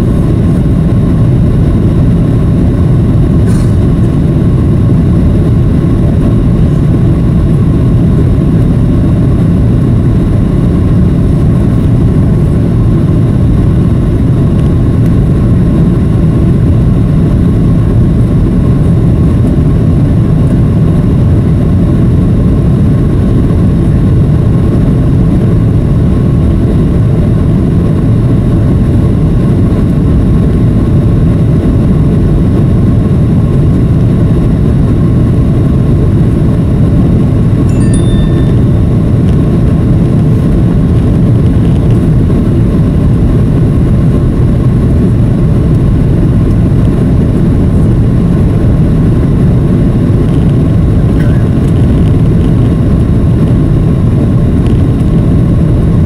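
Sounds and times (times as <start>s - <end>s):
faint steady hum: 0.0s - 56.0s
jet engines rumbling: 0.0s - 56.0s.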